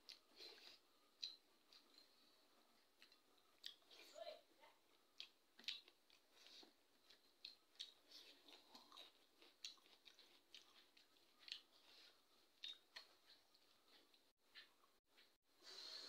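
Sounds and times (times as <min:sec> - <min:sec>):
person chewing: 0:00.0 - 0:04.1, 0:04.8 - 0:15.4.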